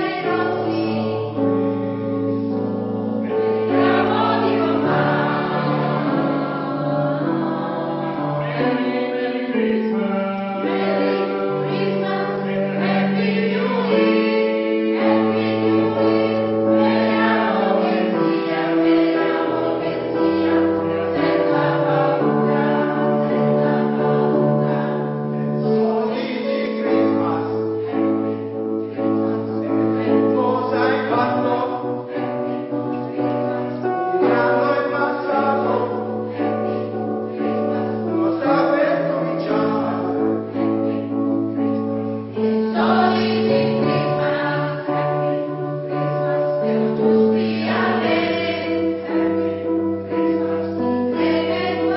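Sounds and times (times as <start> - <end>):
choir singing in parts: 0.0 - 51.9.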